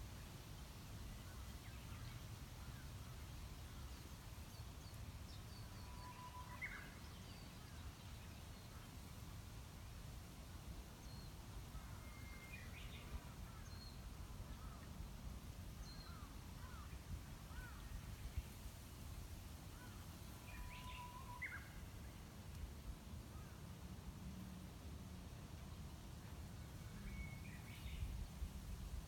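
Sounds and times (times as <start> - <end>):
wind in bamboo: 0.0 - 29.0.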